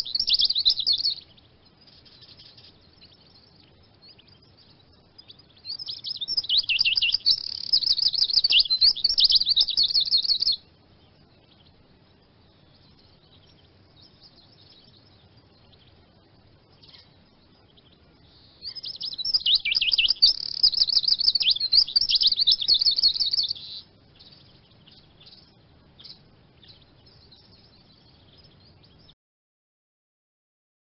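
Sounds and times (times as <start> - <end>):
bird twittering song: 0.0 - 29.2
soft bird calls: 0.0 - 29.2.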